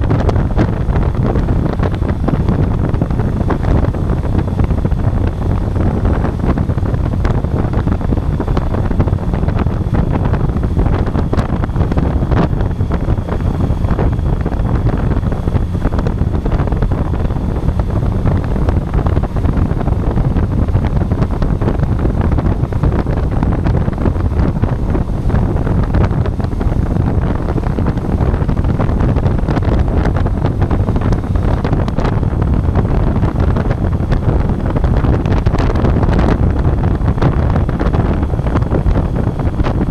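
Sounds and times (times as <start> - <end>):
motorcycle engine: 0.0 - 39.9
wind buffeting microphone: 0.0 - 39.9.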